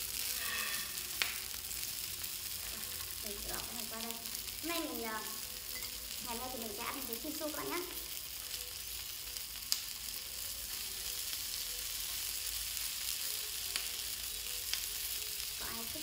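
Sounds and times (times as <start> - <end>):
sausages sizzling in oil: 0.0 - 16.0.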